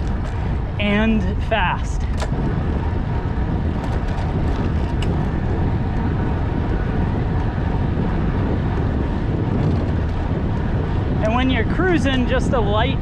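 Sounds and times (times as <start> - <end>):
bicycle tyre road noise: 0.0 - 13.0
wind rushing on microphone: 0.0 - 13.0.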